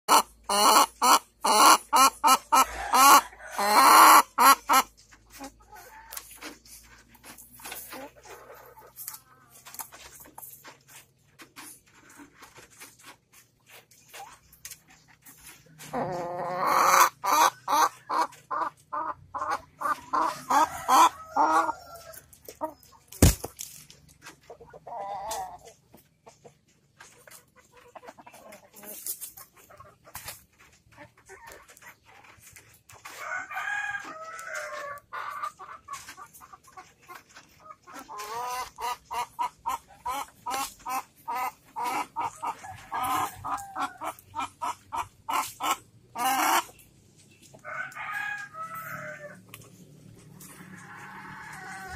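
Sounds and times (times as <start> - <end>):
hen clucking: 0.1 - 23.4, 24.1 - 51.9.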